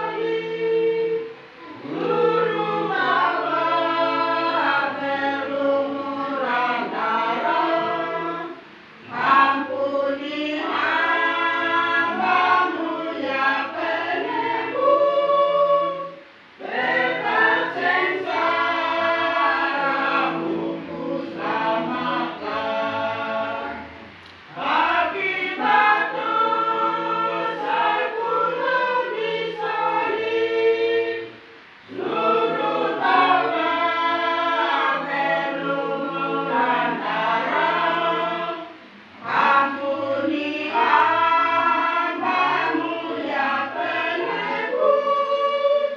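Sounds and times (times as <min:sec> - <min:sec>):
choir singing: 0:00.0 - 0:45.9.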